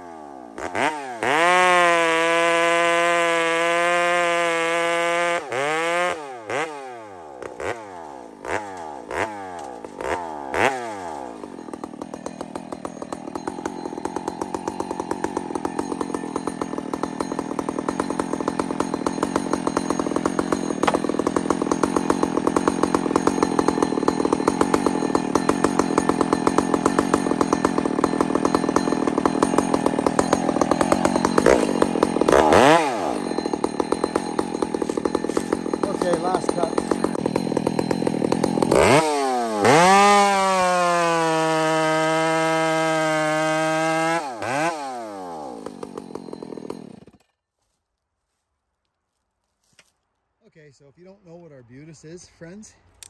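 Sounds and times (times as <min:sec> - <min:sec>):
chainsaw revving and idling: 0:00.0 - 0:47.3.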